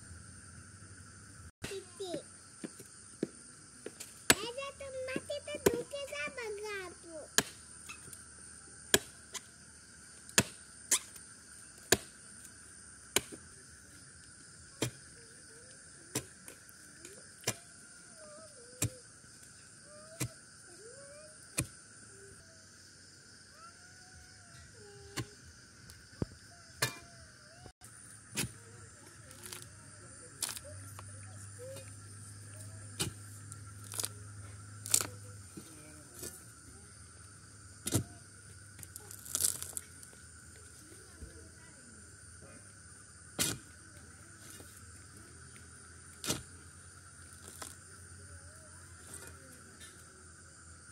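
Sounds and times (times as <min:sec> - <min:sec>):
insect chirring: 0:00.0 - 0:50.9.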